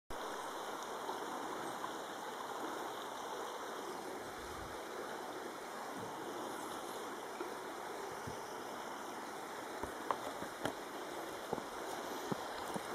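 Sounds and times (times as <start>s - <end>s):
river water flowing over stones: 0.1s - 12.9s.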